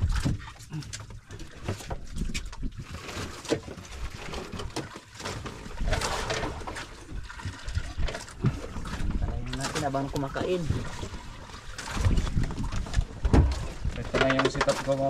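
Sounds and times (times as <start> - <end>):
wind rumbling on microphone: 0.0 - 3.2, 5.5 - 15.0
water sloshing around boat: 0.0 - 15.0.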